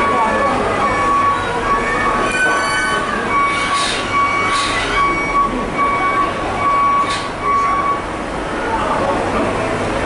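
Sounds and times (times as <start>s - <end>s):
reversing alarm beeping: 0.0s - 8.1s
harbour machinery noise: 0.0s - 10.0s
traffic noise: 0.0s - 10.0s.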